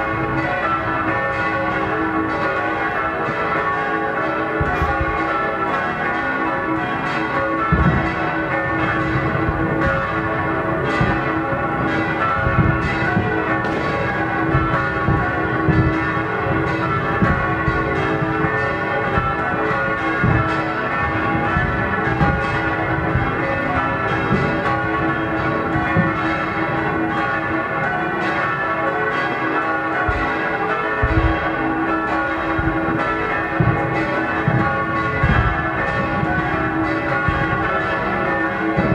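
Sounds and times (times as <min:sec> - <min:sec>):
church bells pealing: 0:00.0 - 0:38.9
firework bangs and crackles: 0:00.0 - 0:38.9.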